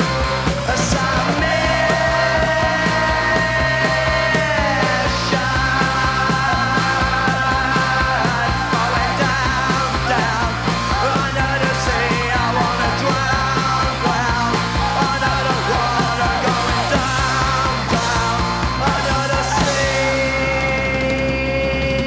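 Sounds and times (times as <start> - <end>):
bass guitar: 0.0 - 22.0
distorted electric guitars: 0.0 - 22.0
drums: 0.0 - 22.0
yelled vocals: 0.0 - 22.0.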